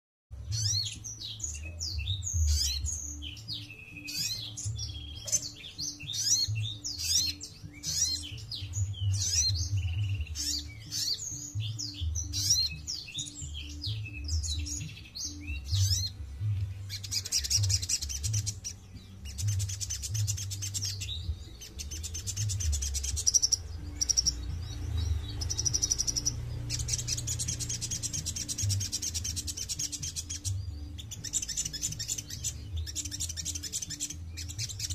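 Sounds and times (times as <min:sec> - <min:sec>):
bird singing high chirps and trills: 0:00.3 - 0:34.9.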